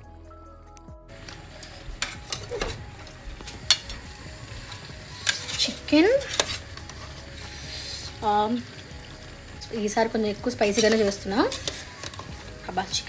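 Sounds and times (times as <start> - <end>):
food sizzling and bubbling in a pot: 1.1 - 13.0.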